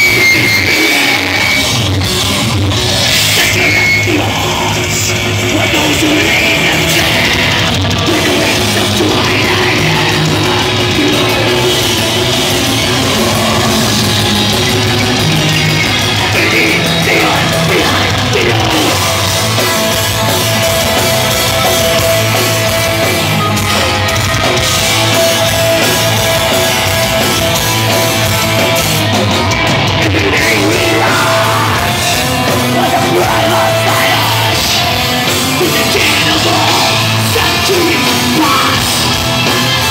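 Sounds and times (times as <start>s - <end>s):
black metal band playing live: 0.0s - 39.9s.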